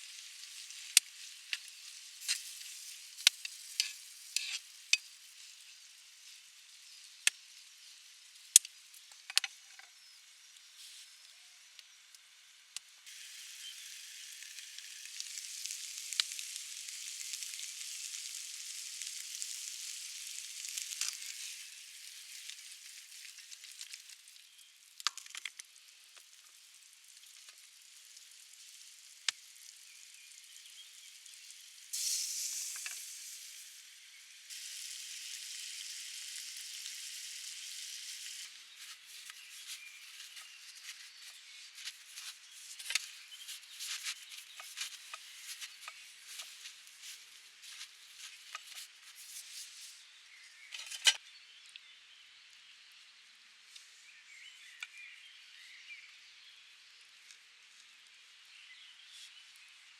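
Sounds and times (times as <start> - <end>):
food sizzling and popping: 0.0 - 59.9.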